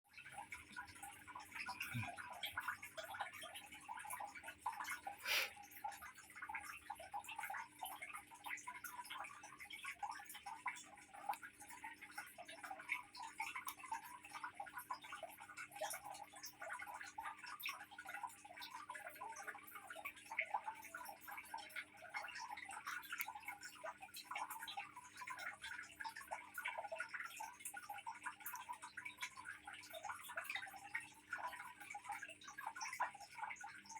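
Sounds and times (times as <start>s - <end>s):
water trickling and dripping: 0.0s - 33.9s.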